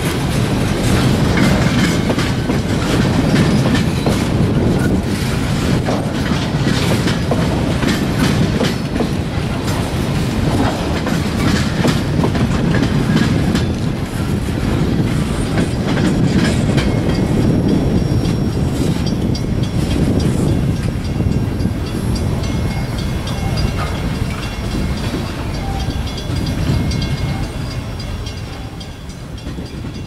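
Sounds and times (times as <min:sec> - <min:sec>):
steel wheels rolling on rail: 0:00.0 - 0:30.0
wheels clacking over rail joints: 0:00.0 - 0:30.0.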